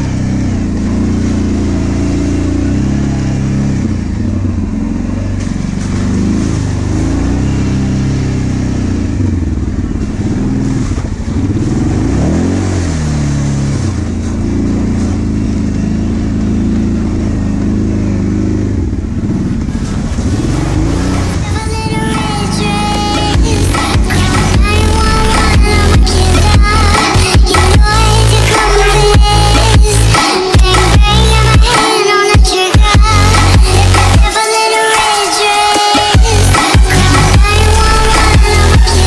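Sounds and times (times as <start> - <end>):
atv engine revving: 0.0 - 31.8, 32.8 - 34.4, 35.2 - 39.0.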